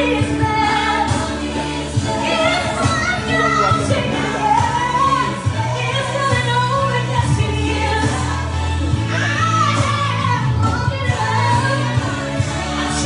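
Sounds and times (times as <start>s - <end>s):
backing track with bass notes: 0.0s - 13.0s
woman singing gospel into microphone: 0.0s - 13.0s.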